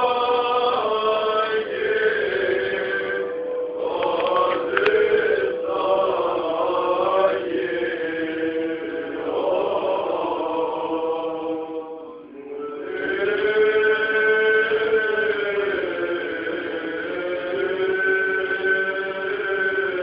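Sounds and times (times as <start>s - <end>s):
steady drone: 0.0s - 20.0s
voices chanting long notes: 0.0s - 20.0s.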